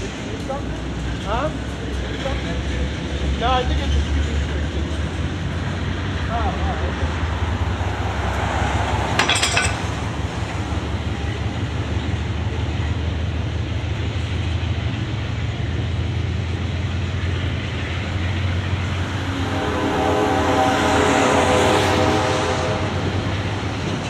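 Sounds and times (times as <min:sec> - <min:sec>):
freight train wheels rumbling on rail: 0:00.0 - 0:24.0.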